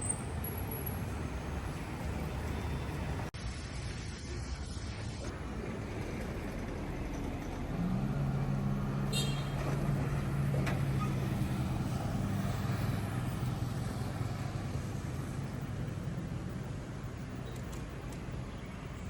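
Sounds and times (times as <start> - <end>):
heavy vehicle engine humming: 0.0 - 3.4, 5.0 - 19.0.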